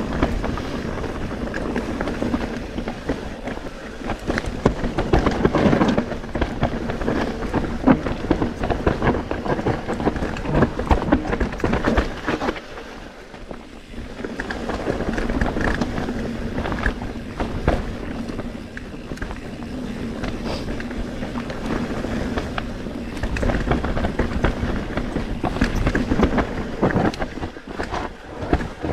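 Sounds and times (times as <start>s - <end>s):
tyres rumbling over dirt and rock: 0.0s - 28.9s
wind buffeting microphone: 0.0s - 28.9s.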